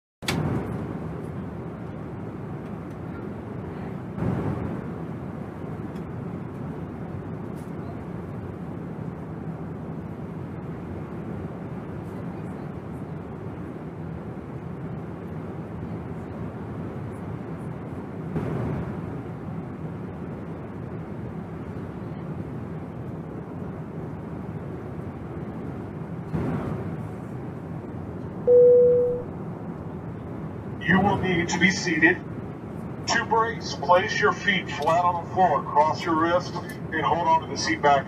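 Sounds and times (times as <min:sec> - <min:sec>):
airliner cabin noise in flight: 0:00.2 - 0:38.0.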